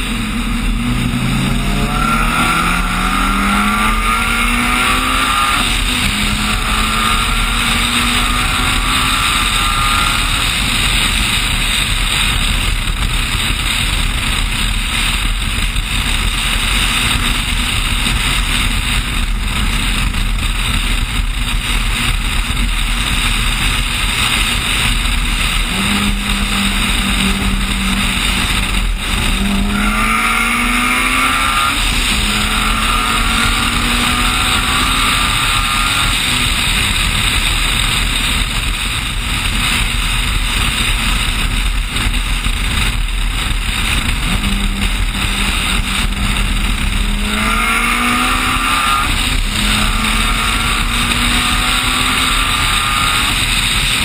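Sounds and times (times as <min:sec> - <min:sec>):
car engine accelerating hard: 0:00.0 - 0:54.0
heavy wind rush: 0:00.0 - 0:54.0.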